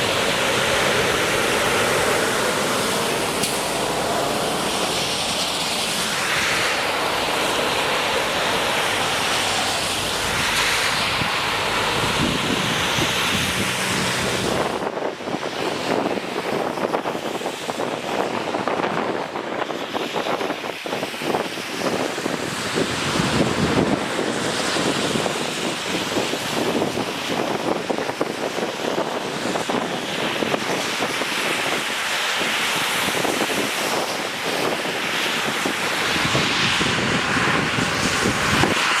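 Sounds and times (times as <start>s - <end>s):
rainwater rushing: 0.0s - 18.5s, 22.1s - 39.0s
wind on microphone: 0.0s - 39.0s.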